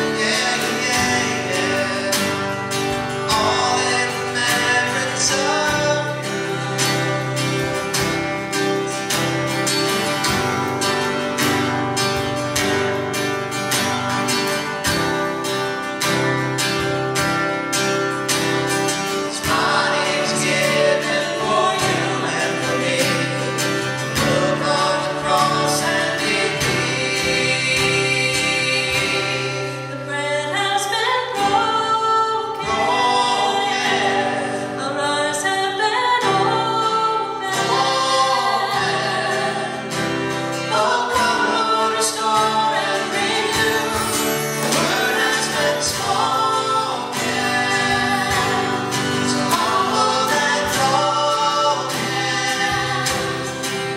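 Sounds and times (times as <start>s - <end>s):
woman and man singing: 0.0s - 10.2s, 18.6s - 53.9s
acoustic guitar strumming: 0.0s - 53.9s.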